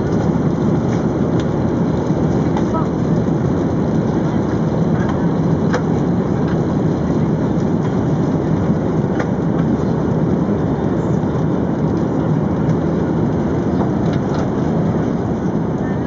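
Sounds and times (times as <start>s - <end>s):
airplane cabin noise: 0.0s - 16.0s.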